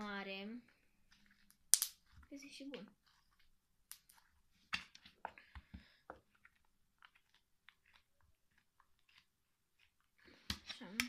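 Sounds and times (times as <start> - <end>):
slime squelching in hands: 0.6 - 11.0.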